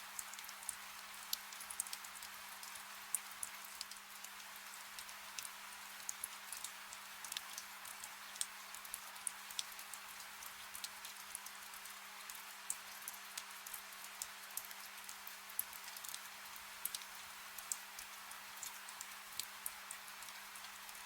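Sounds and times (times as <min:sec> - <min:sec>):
soft rain falling: 0:00.0 - 0:21.0
raindrops ticking: 0:00.2 - 0:21.0.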